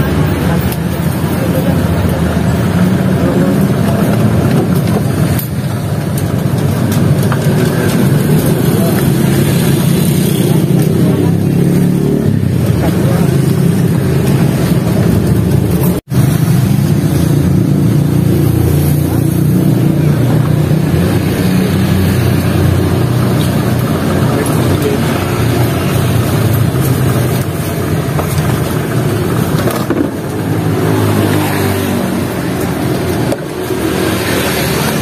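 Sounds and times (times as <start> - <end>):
gas burner roaring: 0.0 - 35.0.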